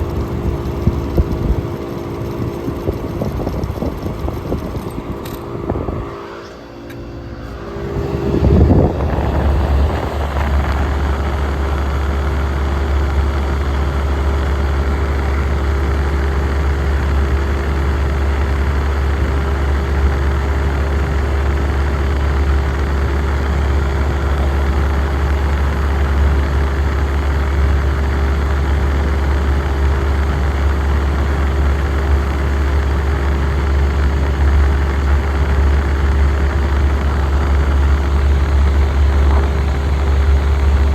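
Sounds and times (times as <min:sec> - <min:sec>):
air conditioner humming: 0:00.0 - 0:18.0, 0:20.2 - 0:40.9.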